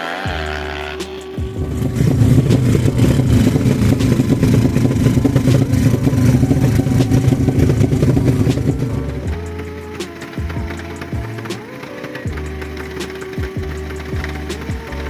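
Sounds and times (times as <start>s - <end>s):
motorcycle engine running hard: 0.2s - 15.0s.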